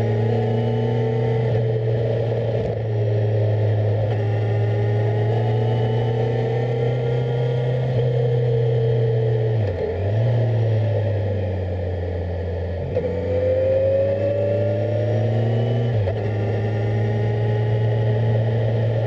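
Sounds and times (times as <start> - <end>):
motorcycle engine running: 0.0 - 19.0
road and wind rush: 0.0 - 19.0.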